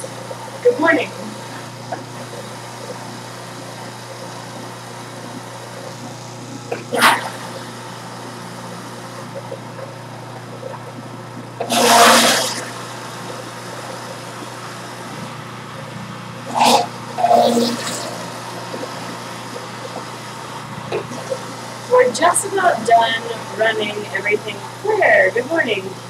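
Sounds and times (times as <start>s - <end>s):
juicer grinding produce: 0.0s - 26.0s
juicer motor humming: 0.0s - 26.0s.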